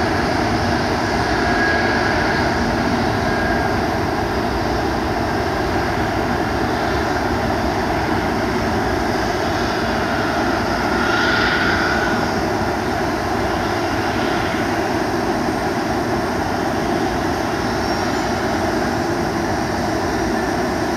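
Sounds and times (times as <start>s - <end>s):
distant jet engine roar: 0.0s - 20.9s
high jet whine: 0.0s - 20.9s.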